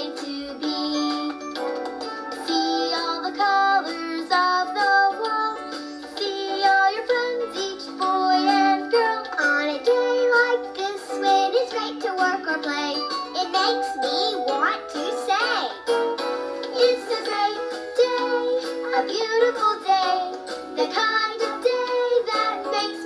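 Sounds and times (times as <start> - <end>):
child singing: 0.0 - 1.4, 2.4 - 15.8, 16.7 - 23.0
instrumental accompaniment: 0.0 - 23.0.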